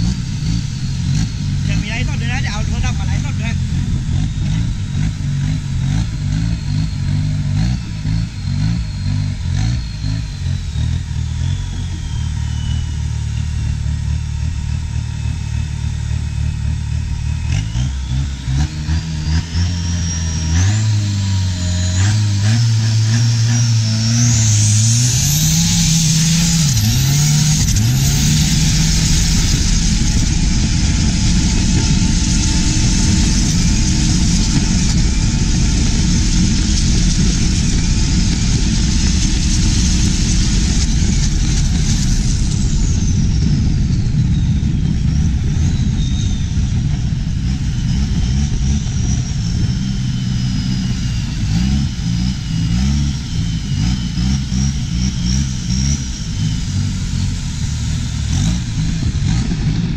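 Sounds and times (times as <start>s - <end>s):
boat diesel engine running: 0.0s - 59.9s.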